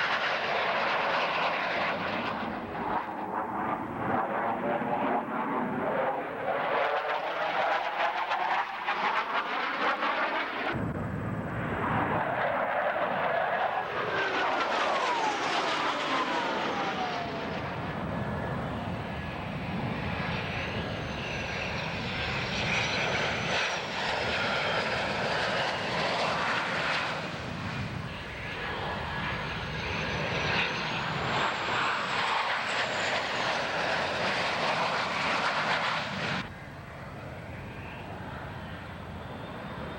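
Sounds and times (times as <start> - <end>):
jet aircraft flying past: 0.0 - 39.9.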